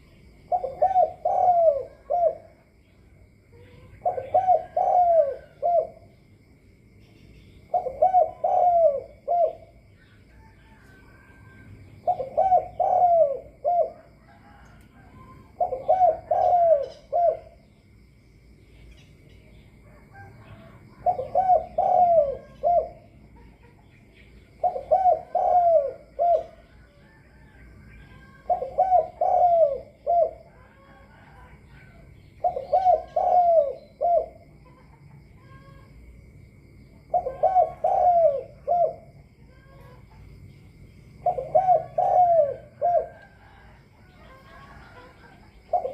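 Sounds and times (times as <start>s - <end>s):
dove cooing: 0.0s - 2.8s, 3.4s - 6.2s, 7.6s - 17.7s, 19.8s - 23.9s, 24.5s - 35.9s, 37.0s - 40.4s, 41.1s - 45.9s.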